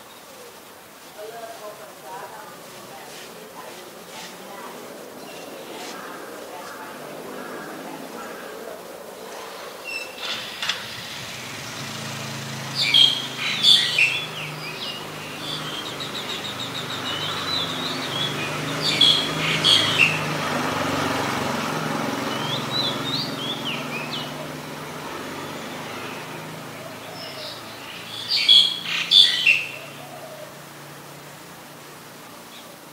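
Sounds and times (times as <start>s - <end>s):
starling calling: 0.0s - 31.2s.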